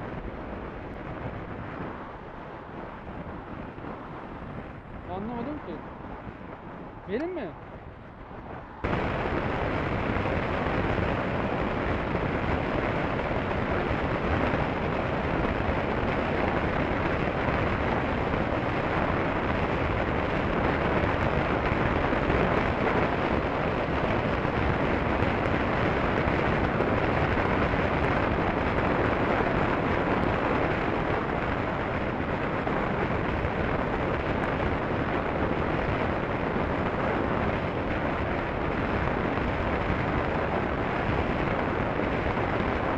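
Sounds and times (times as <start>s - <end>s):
road noise: 0.0s - 42.9s
wind roar on microphone: 0.0s - 42.9s.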